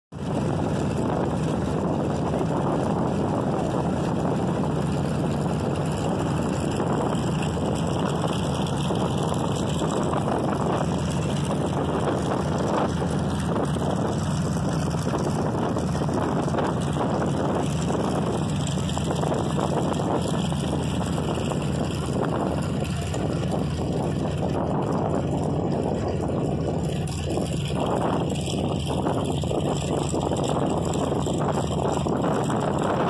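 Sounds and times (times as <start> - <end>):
propeller aircraft engines droning: 0.1 - 33.0.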